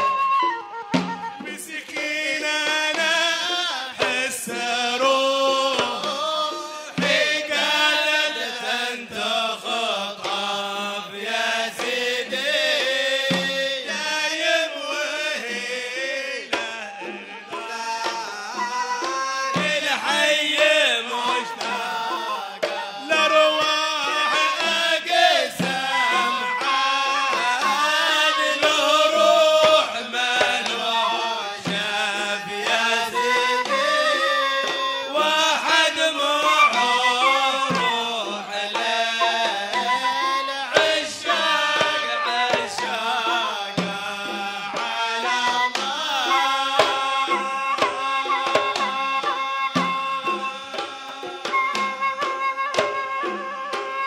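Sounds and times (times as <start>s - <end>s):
hand drums beating: 0.0s - 54.0s
men singing: 0.0s - 54.0s.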